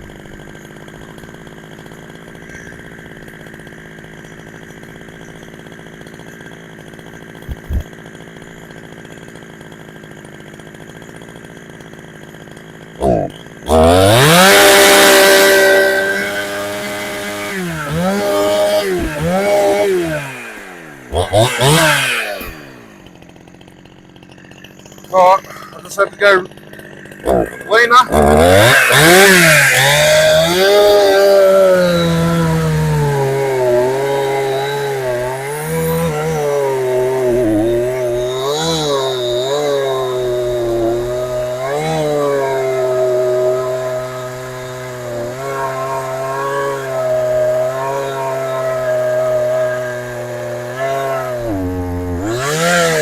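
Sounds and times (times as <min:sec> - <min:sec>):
chainsaw revving: 0:00.0 - 0:53.0.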